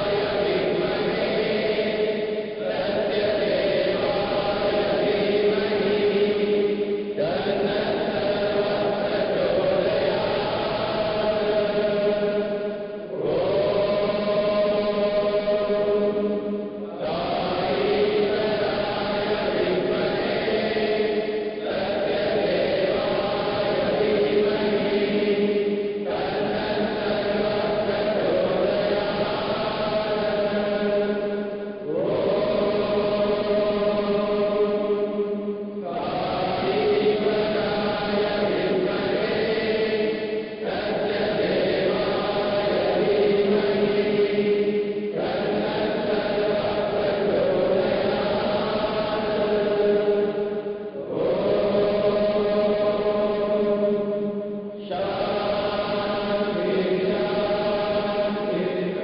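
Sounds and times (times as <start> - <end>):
group chanting a prayer: 0.0 - 59.0.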